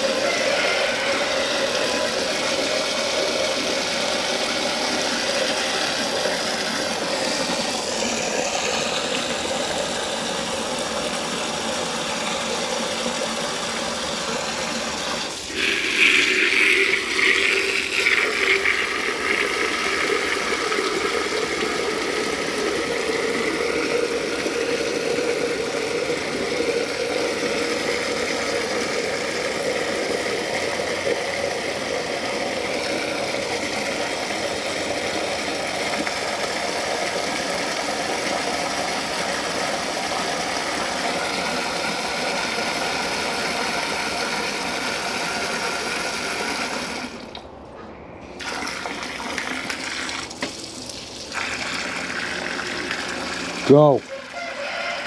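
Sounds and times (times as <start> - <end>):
hose water pouring into container: 0.0 - 47.4, 48.4 - 55.0.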